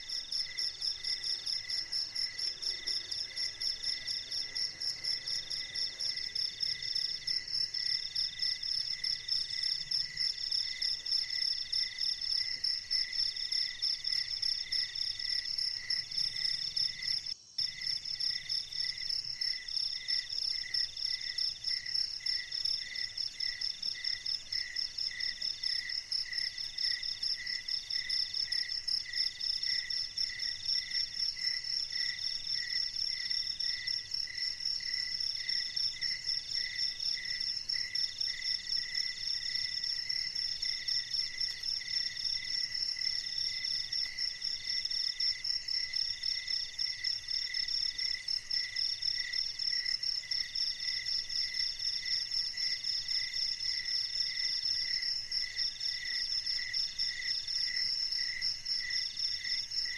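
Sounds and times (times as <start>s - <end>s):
night insects trilling: 0.0s - 59.9s.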